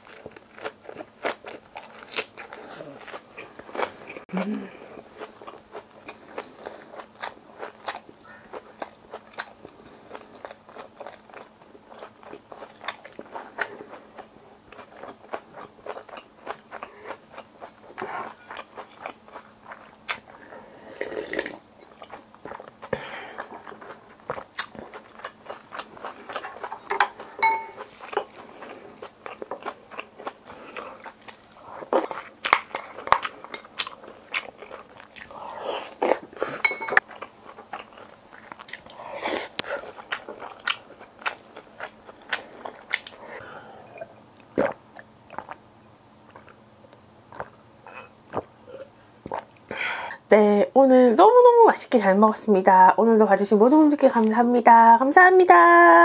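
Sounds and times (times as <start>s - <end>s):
person chewing crunchy food: 0.0s - 49.7s.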